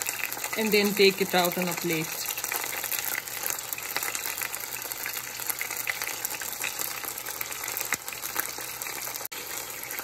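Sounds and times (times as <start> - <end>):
chicken sizzling in oil: 0.0 - 10.0
oil crackling and popping: 0.0 - 10.0.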